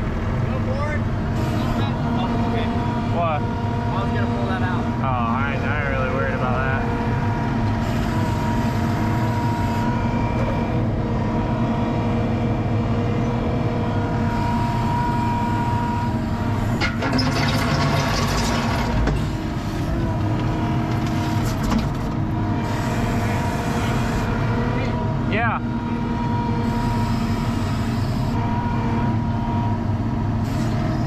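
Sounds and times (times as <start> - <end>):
diesel engine under load: 0.0 - 31.0
hydraulic whine: 0.0 - 31.0.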